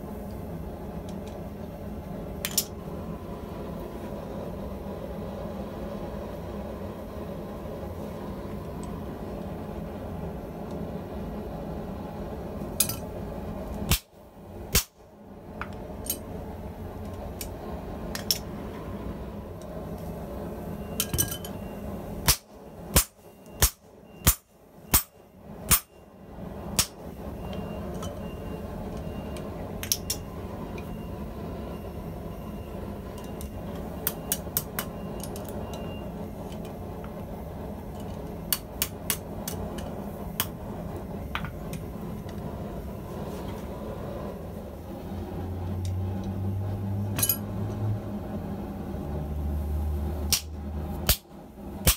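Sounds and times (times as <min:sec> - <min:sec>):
steady background hum: 0:00.0 - 0:51.9.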